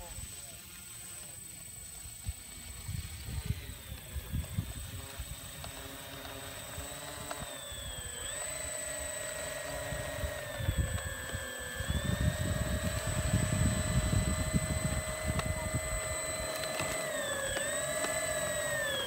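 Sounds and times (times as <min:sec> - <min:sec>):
model plane electric motors whining: 0:00.0 - 0:19.0.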